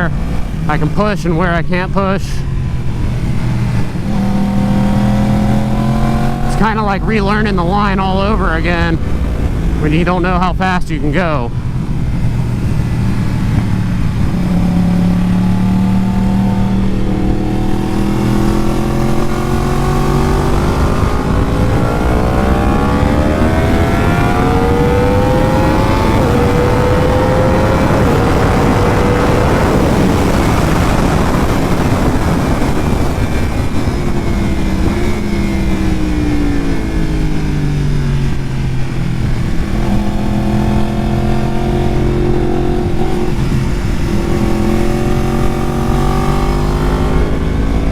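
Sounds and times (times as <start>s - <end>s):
motorcycle engine accelerating: 0.0s - 47.9s
wind rushing: 2.4s - 47.9s.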